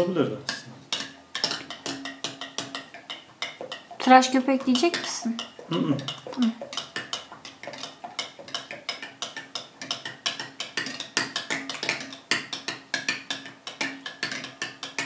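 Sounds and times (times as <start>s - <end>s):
metal spoon clinking against bowl: 0.0s - 15.0s.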